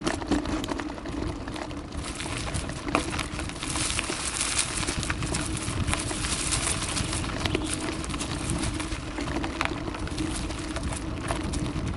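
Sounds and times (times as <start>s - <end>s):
bike clicking and rattling: 0.0s - 11.9s
bike tyres rolling on dirt: 0.0s - 11.9s.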